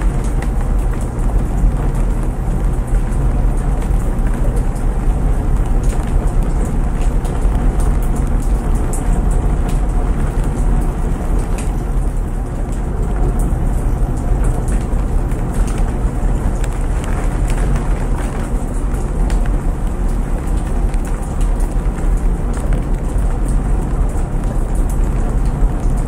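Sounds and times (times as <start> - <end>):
rain falling: 0.0 - 26.0
washing machine rumbling: 0.0 - 26.0.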